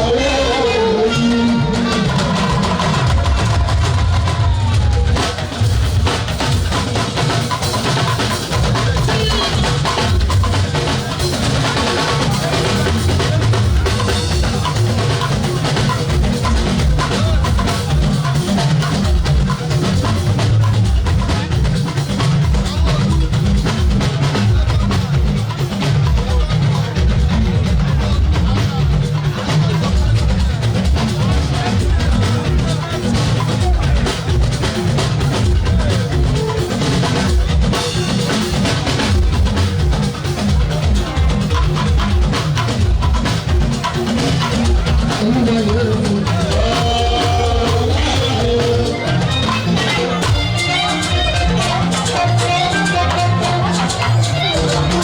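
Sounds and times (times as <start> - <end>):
heavy bass drum beat: 0.0 - 55.0
loud drum-driven music: 0.0 - 55.0.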